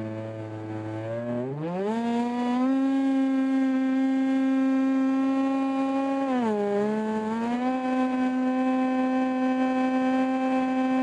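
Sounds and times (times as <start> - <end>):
model airplane motor and propeller: 0.0 - 11.0.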